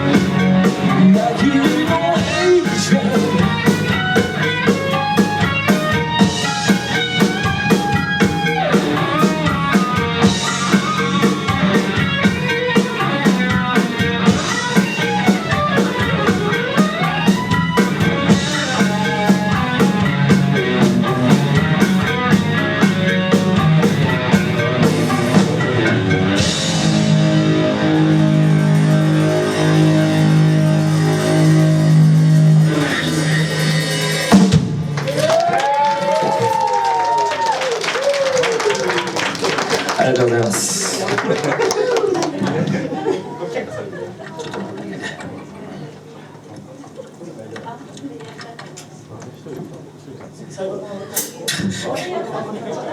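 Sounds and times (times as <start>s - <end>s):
bass guitar: 0.0s - 43.0s
electric guitar: 0.0s - 43.1s
drums: 0.0s - 46.9s, 51.1s - 52.9s.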